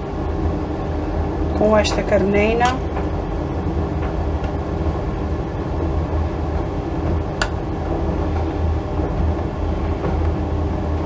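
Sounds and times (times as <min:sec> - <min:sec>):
low rumble with hum: 0:00.0 - 0:11.0.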